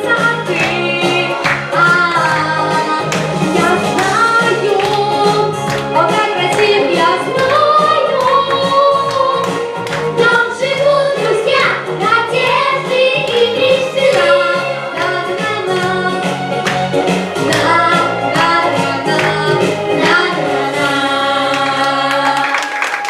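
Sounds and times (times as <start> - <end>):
backing track with steady beat: 0.0 - 21.9.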